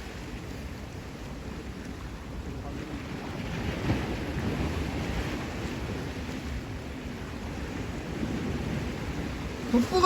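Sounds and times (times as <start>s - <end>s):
sea waves washing ashore: 0.0s - 10.0s
wind buffeting microphone: 0.0s - 10.0s.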